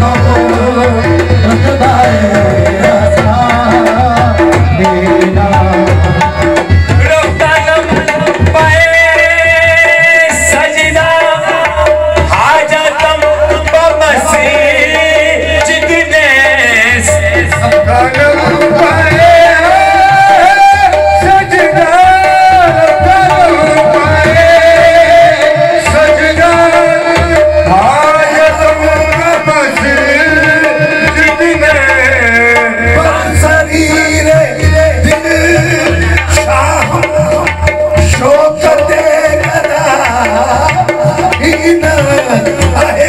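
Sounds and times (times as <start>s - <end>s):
tabla drumming: 0.0s - 43.0s.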